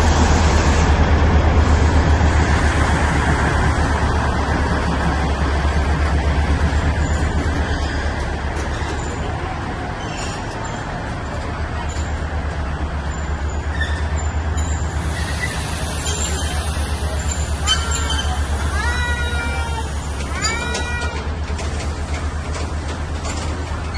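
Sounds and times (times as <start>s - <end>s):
toy train rumbling: 3.6s - 23.9s.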